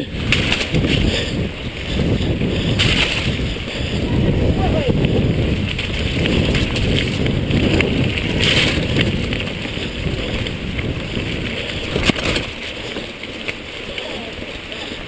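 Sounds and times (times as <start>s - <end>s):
bike rattling over bumps: 0.0s - 15.0s
bike tyres rumbling on wet gravel: 0.0s - 15.0s
wind buffeting microphone: 0.0s - 15.0s.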